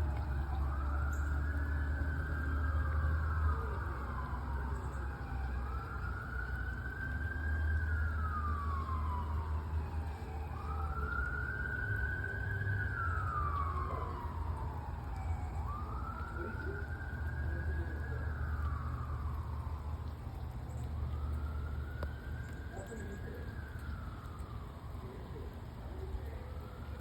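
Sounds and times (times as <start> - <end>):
fire engine siren wailing: 0.0 - 27.0.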